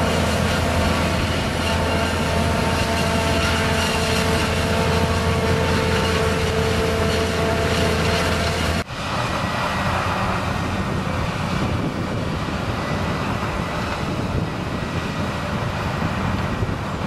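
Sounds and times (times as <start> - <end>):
heavy diesel machinery drone: 0.0 - 17.0
steady machinery whine: 0.0 - 17.0.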